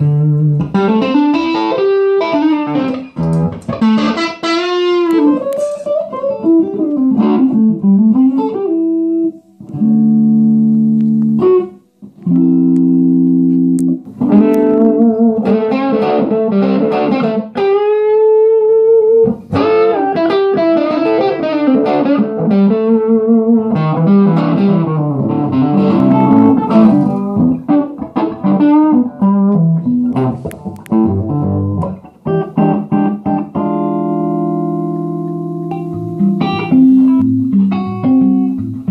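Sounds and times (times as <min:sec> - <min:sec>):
electric guitar lead runs: 0:00.0 - 0:38.9
held electric guitar chords: 0:00.0 - 0:38.9.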